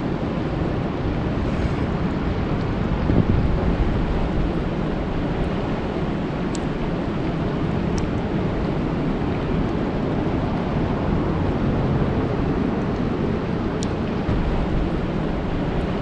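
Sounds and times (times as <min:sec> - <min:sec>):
rain falling on a lake: 0:02.2 - 0:16.0.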